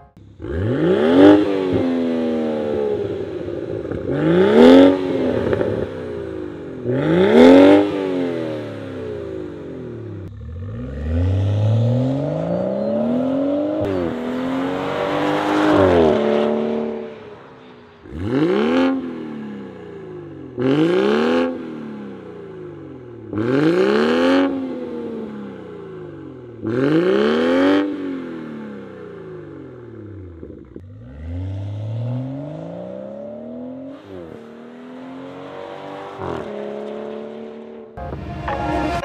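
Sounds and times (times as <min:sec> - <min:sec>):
car engine revving: 0:00.1 - 0:39.0.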